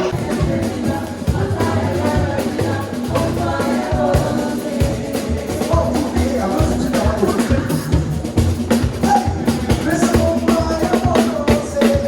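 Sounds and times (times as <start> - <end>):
gospel band playing: 0.0 - 12.0
group of singers: 0.0 - 12.0.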